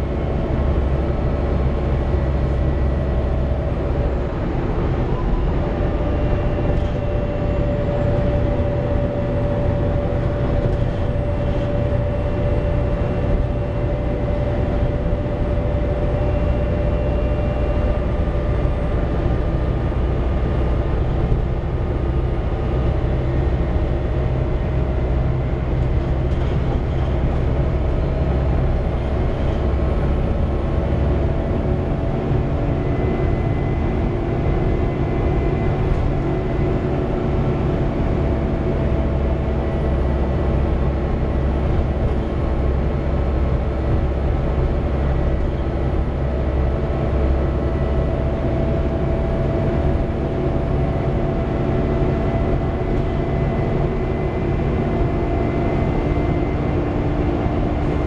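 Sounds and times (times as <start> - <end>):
bus diesel engine rumble: 0.0 - 58.0
steady whine: 0.0 - 58.0.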